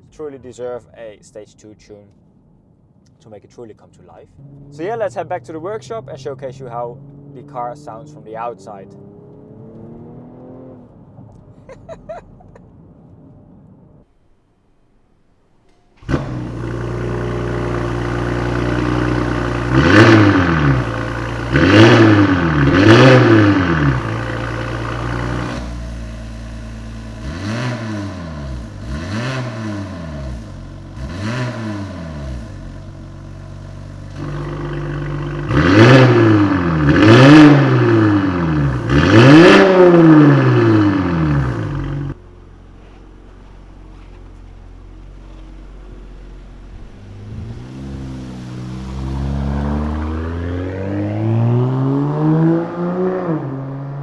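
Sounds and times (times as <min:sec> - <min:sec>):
car engine starting: 0:00.0 - 0:54.0
car engine revving: 0:04.3 - 0:11.5, 0:16.0 - 0:54.0.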